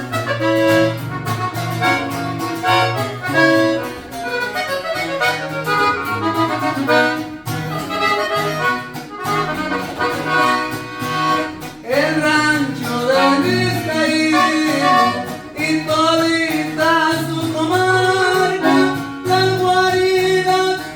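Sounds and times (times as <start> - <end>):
accordion melody: 0.0 - 20.9.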